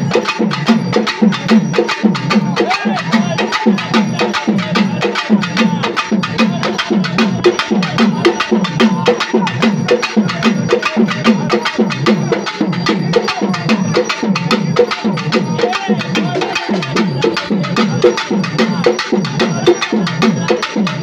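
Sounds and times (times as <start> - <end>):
drum ensemble playing: 0.0 - 21.0.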